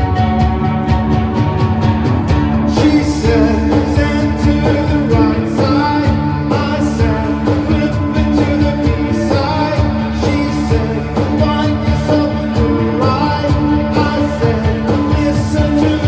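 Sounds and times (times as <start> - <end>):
bass guitar: 0.0 - 16.0
drums: 0.0 - 16.0
reverb-heavy electric guitar: 0.0 - 16.0
lead vocal singing: 2.6 - 16.0.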